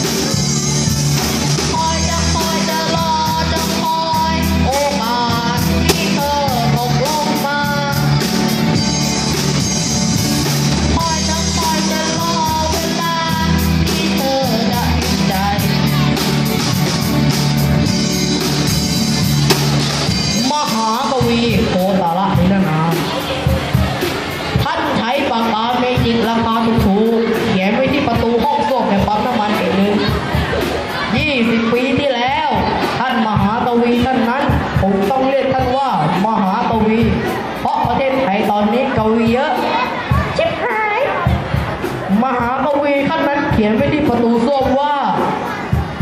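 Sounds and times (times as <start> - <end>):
live pop band playing: 0.0 - 46.0.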